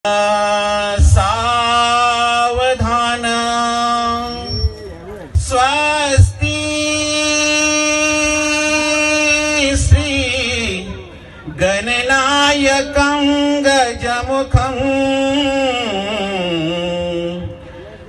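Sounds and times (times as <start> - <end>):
man singing long notes: 0.0 - 17.9.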